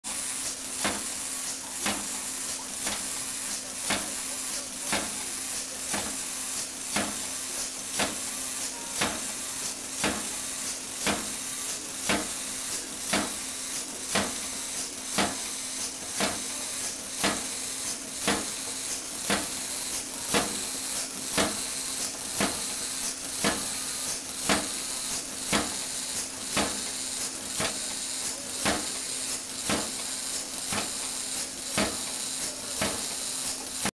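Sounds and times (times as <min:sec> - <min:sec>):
motor hum and hiss: 0:00.1 - 0:33.9.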